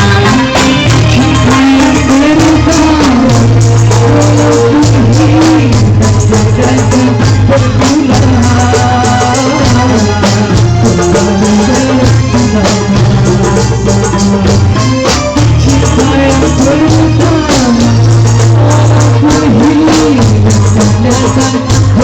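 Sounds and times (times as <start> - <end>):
hand percussion rhythm: 0.0 - 22.0
steady bass line: 0.0 - 22.0.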